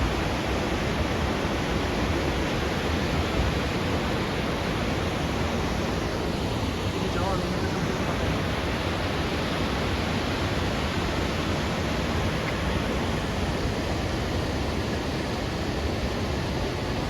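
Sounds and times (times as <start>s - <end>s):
river pouring over falls: 0.0s - 17.0s.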